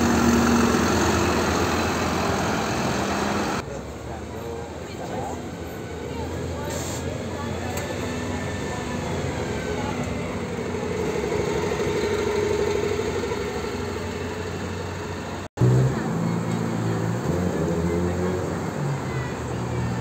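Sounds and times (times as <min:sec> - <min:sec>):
bus engine low steady note: 0:00.0 - 0:18.4
bus diesel engine driving off: 0:00.0 - 0:20.0.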